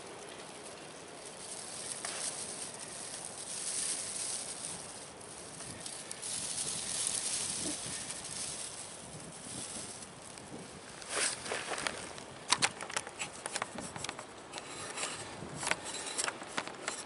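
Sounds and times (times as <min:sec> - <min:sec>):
dry grass rustling and crackling: 0:00.0 - 0:17.0.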